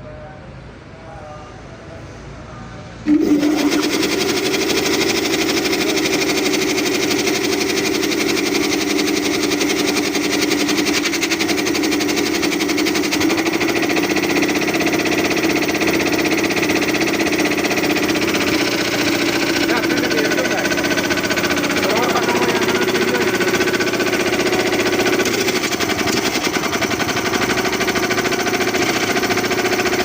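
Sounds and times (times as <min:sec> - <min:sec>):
air compressor running: 0:03.0 - 0:30.0.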